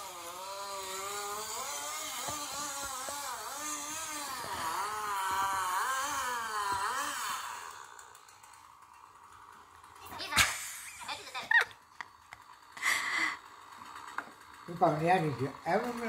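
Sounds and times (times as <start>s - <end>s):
machine engine revving on television: 0.0s - 16.0s.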